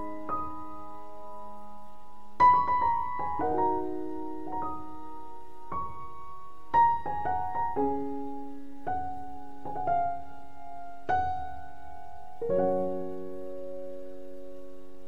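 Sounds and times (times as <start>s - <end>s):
slow piano piece: 0.0s - 15.0s.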